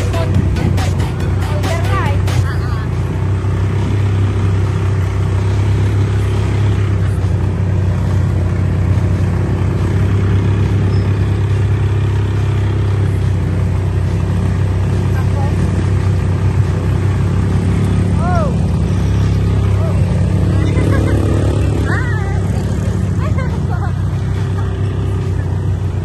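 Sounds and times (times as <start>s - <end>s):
atv engine humming: 0.0s - 26.0s.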